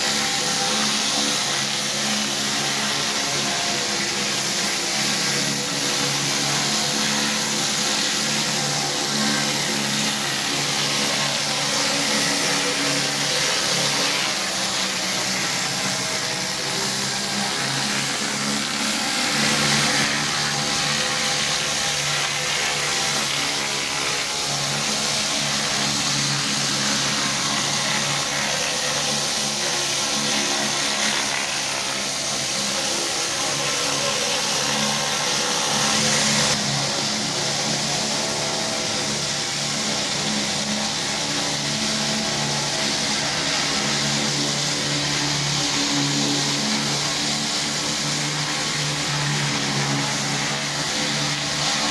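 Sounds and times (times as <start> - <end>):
high-pressure water spray hiss: 0.0 - 51.9
pressure washer engine hum: 0.0 - 51.9.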